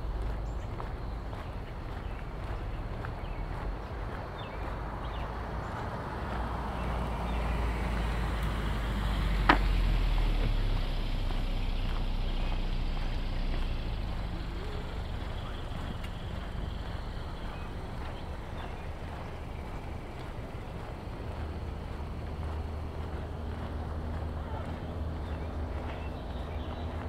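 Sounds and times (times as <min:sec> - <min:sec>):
vehicle driving past: 0:00.0 - 0:27.0.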